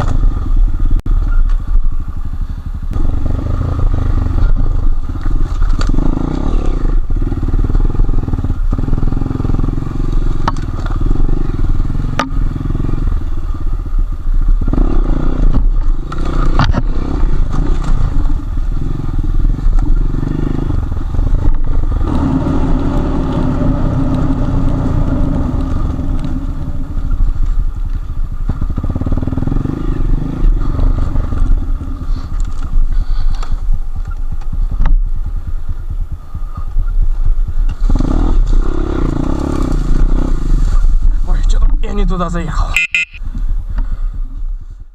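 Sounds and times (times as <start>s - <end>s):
motorcycle engine revving: 0.0s - 41.4s.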